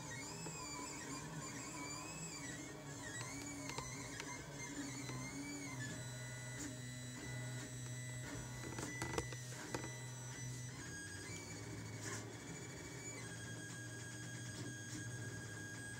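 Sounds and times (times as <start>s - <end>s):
stepper motors humming: 0.0s - 15.9s.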